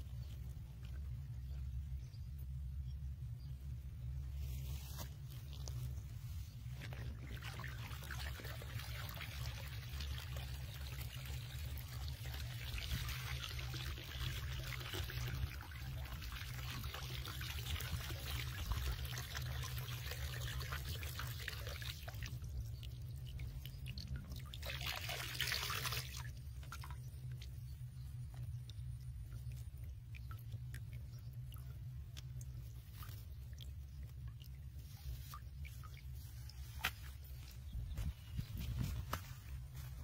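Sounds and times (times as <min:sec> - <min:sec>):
water pouring and trickling: 0:04.7 - 0:40.0.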